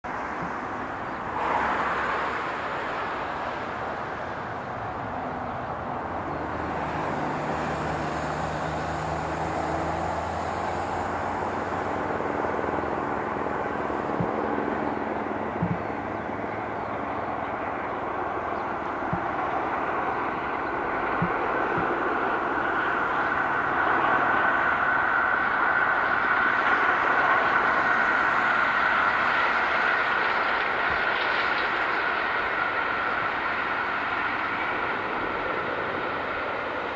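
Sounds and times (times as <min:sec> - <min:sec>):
helicopter engine and rotor: 0:00.1 - 0:36.9
steam train running: 0:00.1 - 0:36.9.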